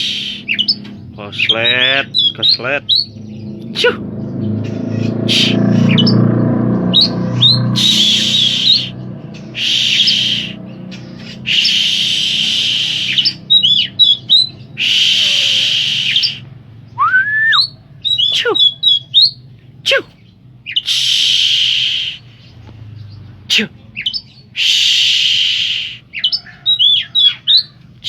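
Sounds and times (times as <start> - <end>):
bird chirps and whistles: 0.0 - 3.9, 5.1 - 6.2, 6.9 - 19.4, 20.7 - 22.4, 24.0 - 27.8
bird singing rasping phrases: 0.0 - 28.0.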